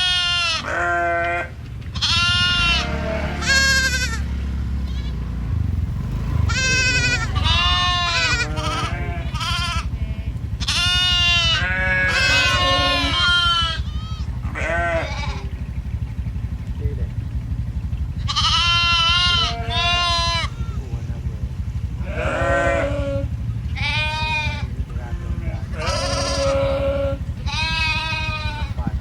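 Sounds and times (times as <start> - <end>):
sheep bleating: 0.0 - 5.3, 6.5 - 16.0, 18.2 - 20.9, 21.9 - 29.0
steady low rumble: 0.0 - 29.0.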